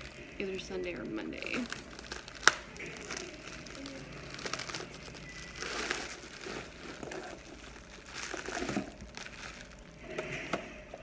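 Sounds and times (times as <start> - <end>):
bubble wrap crinkling: 0.0 - 11.0
cardboard rustling: 1.4 - 10.8.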